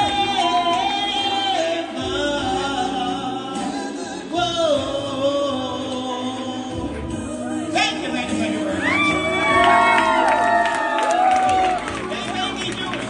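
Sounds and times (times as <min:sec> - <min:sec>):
person singing: 0:00.0 - 0:10.9
music: 0:00.0 - 0:13.0.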